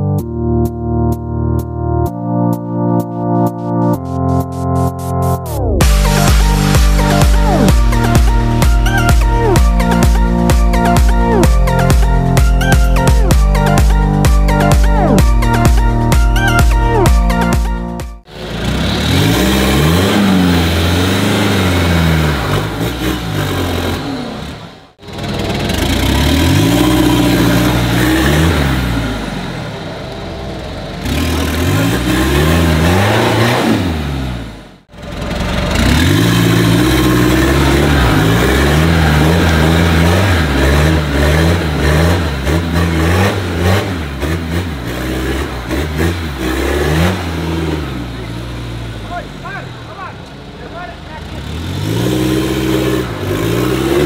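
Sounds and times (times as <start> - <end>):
truck engine revving: 0.4 - 54.0.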